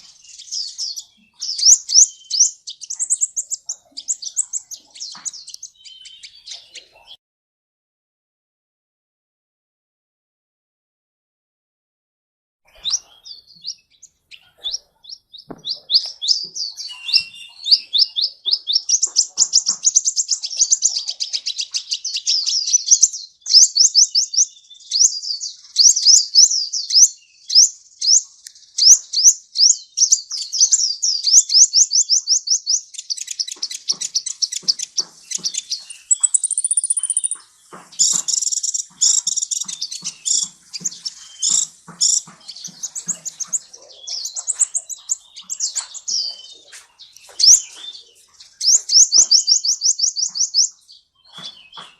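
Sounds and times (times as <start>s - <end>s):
sunbird chirping: 0.0s - 7.2s, 12.7s - 51.9s.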